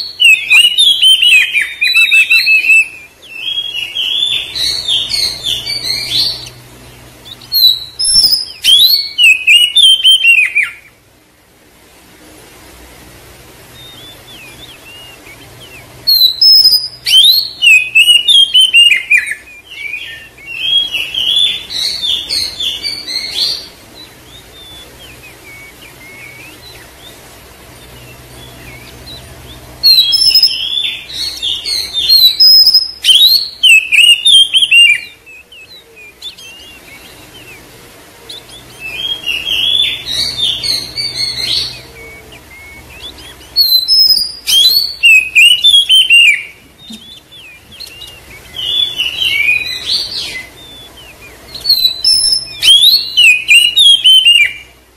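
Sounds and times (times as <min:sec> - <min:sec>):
bird singing whistles and chirps: 0:00.0 - 0:11.0, 0:13.7 - 0:54.8.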